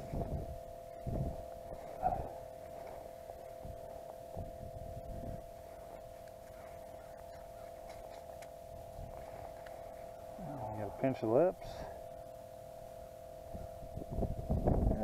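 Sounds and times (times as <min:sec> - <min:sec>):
electronic hum of sonar unit: 0:00.0 - 0:15.0
wind rumbling on microphone: 0:00.0 - 0:15.0.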